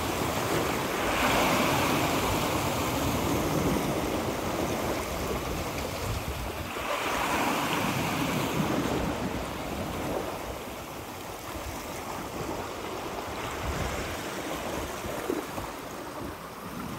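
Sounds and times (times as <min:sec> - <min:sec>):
waves breaking on rocky shore: 0:00.0 - 0:16.9
wind buffeting microphone: 0:00.0 - 0:16.9.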